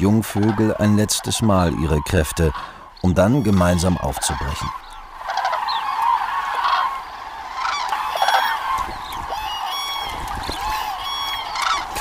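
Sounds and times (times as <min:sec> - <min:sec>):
cranes trumpeting calls: 0:00.0 - 0:12.0.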